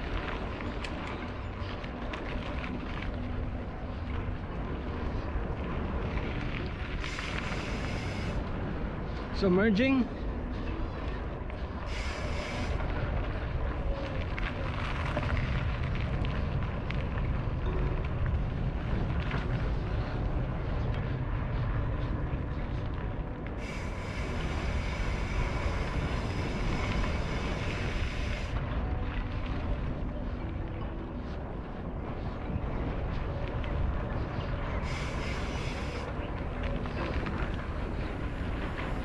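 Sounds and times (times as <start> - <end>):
mountain bike rolling on dirt: 0.0 - 39.0
wind rushing over microphone: 0.0 - 39.0.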